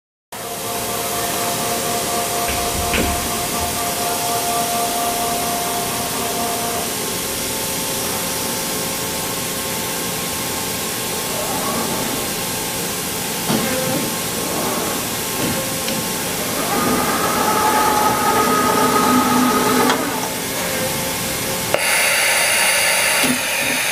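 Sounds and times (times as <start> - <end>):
faint hum tones: 0.4 - 21.8
machinery hiss: 0.4 - 23.9.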